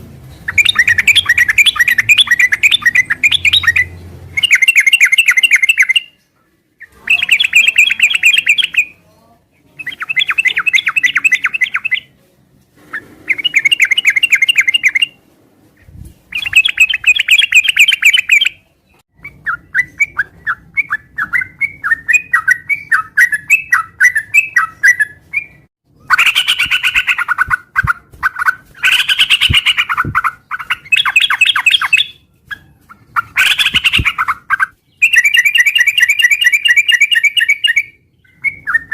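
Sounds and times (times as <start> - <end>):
bird singing chattering notes: 0.3 - 6.2, 6.8 - 9.0, 9.8 - 12.1, 13.3 - 15.1, 16.3 - 32.3, 32.9 - 38.9.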